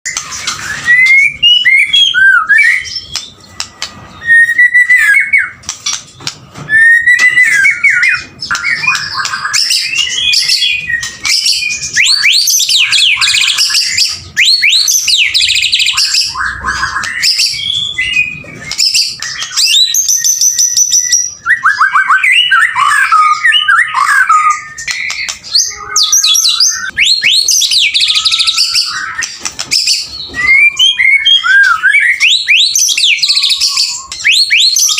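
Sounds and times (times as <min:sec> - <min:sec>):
songbird whistling and trilling: 0:00.1 - 0:34.9.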